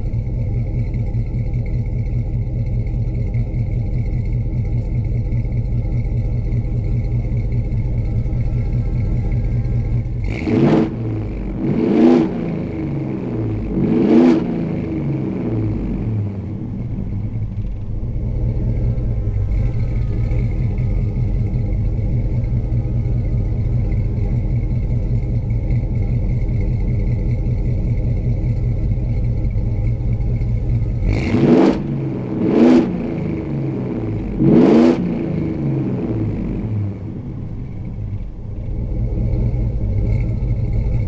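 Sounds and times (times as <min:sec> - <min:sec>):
truck engine idling with deep rumble: 0:00.0 - 0:34.4, 0:35.0 - 0:41.0
engine revving: 0:03.0 - 0:41.0.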